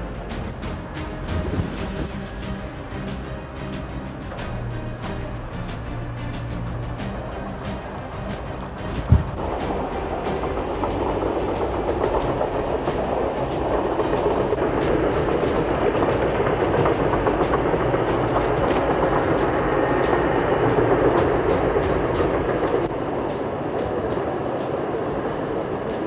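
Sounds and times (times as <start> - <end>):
rail vehicle running on track: 0.0 - 26.0
sharp clicks from wheels and rails: 0.0 - 26.0.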